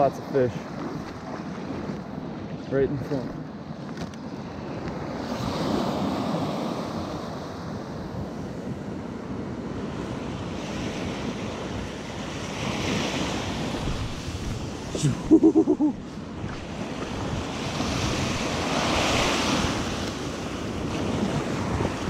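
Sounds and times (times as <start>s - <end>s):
waves washing over sand: 0.0s - 22.0s.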